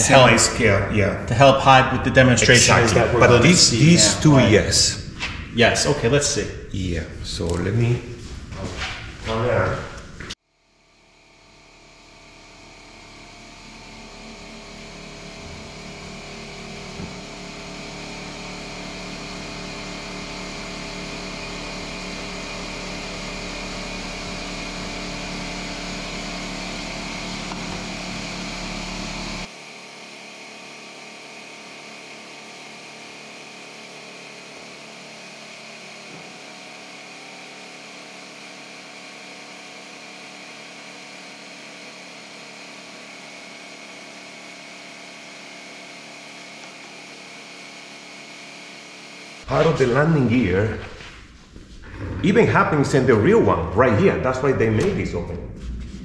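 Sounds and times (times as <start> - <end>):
machine hum: 0.0 - 29.9, 30.5 - 56.0.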